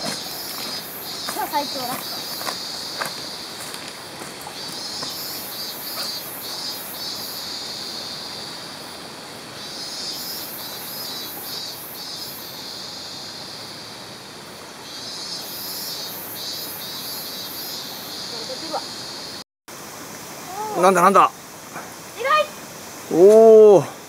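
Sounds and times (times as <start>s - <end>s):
insects trilling: 0.0s - 24.0s
mountain stream rushing: 0.0s - 24.0s.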